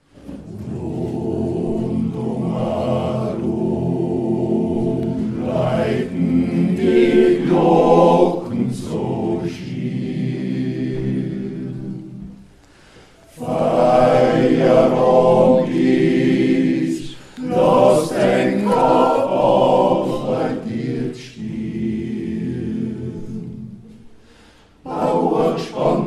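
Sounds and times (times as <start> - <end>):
men's choir singing: 0.1 - 12.5, 13.2 - 26.0.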